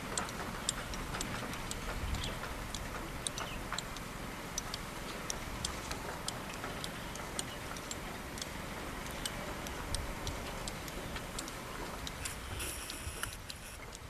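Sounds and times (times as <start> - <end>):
diesel truck engine rumbling: 0.0 - 13.7
irregular sharp ticks: 0.0 - 14.0.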